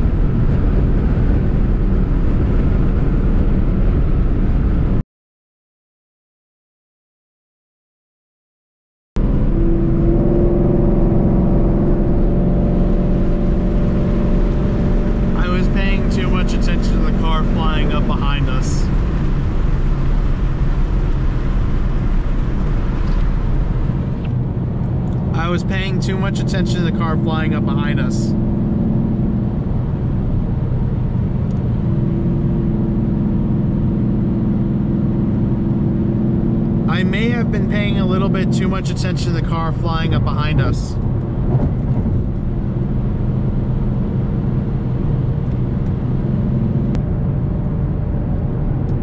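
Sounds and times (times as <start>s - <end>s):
car engine and road drone: 0.0s - 5.0s, 9.2s - 49.0s.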